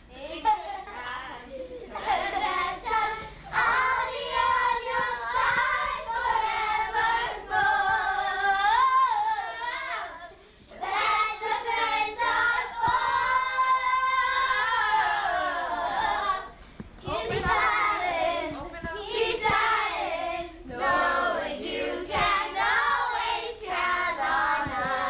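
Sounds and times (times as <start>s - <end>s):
children singing together: 0.8s - 25.0s.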